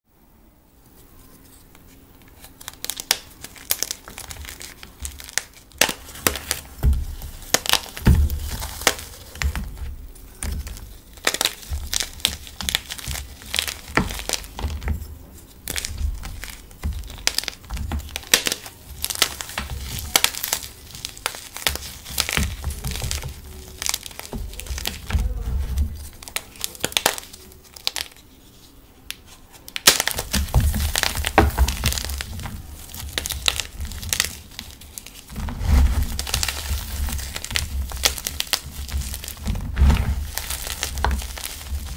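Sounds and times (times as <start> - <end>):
chalk blocks crunching by hand: 1.5 - 41.9.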